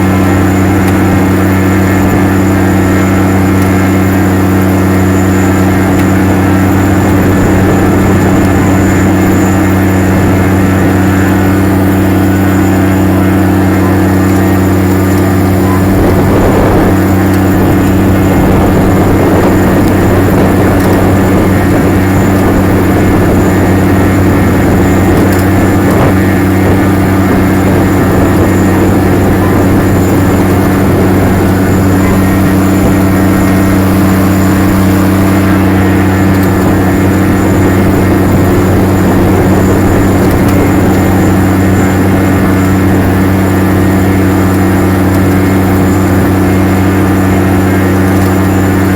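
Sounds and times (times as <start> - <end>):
tractor diesel engine droning: 0.0 - 48.9.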